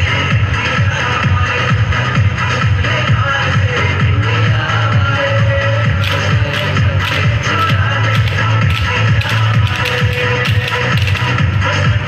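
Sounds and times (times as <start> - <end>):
dance music with heavy bass: 0.0 - 12.0.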